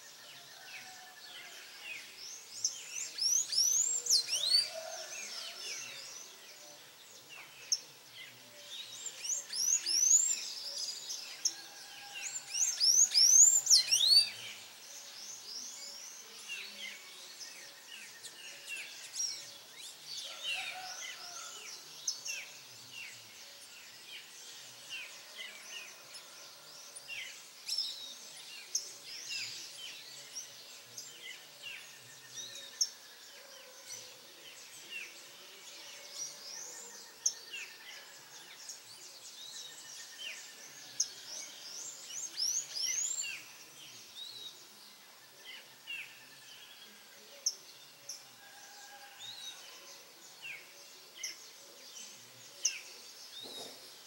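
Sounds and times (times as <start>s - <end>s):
songbirds chirping and whistling: 0.0s - 54.0s.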